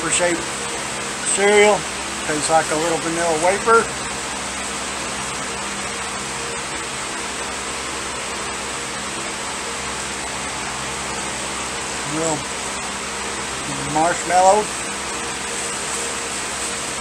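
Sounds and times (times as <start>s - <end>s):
machinery hiss and hum: 0.0s - 17.0s.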